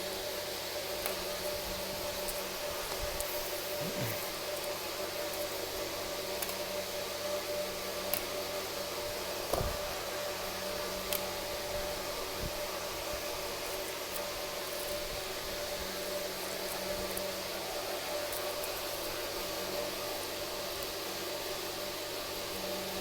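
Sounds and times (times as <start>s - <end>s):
background hum and hiss: 0.0s - 23.0s.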